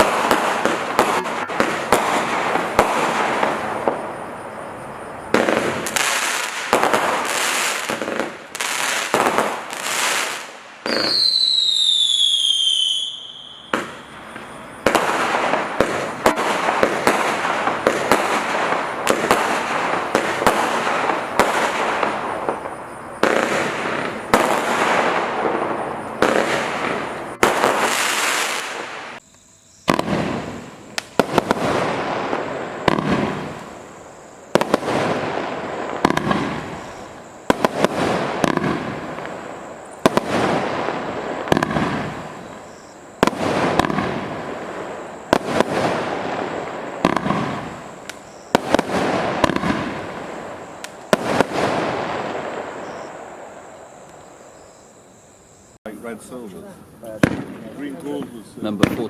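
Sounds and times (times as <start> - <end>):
fireworks banging: 0.0 - 29.2, 29.8 - 54.5, 57.1 - 59.0.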